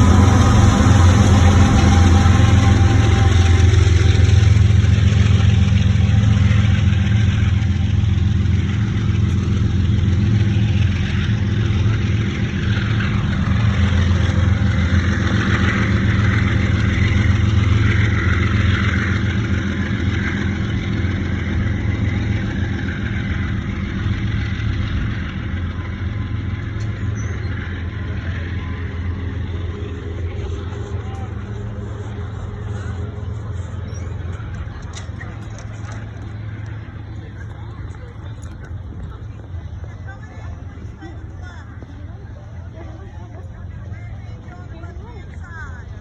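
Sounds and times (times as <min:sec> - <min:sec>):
train wheels hissing on rails: 0:00.0 - 0:38.9
diesel locomotive engine drone: 0:00.0 - 0:46.0.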